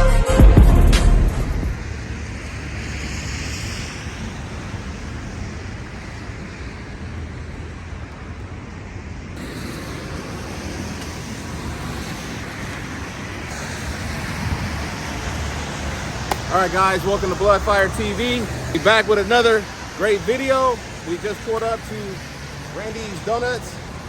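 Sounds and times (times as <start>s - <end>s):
vehicle road noise: 0.3s - 24.0s.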